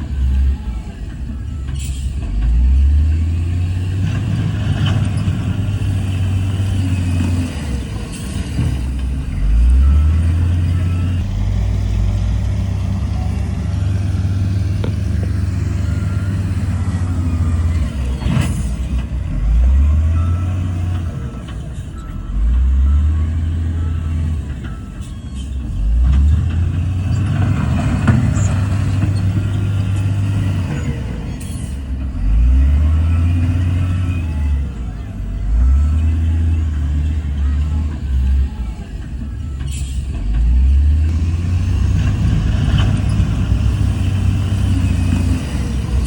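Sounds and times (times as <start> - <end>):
heavy diesel engine revving: 0.0 - 46.0.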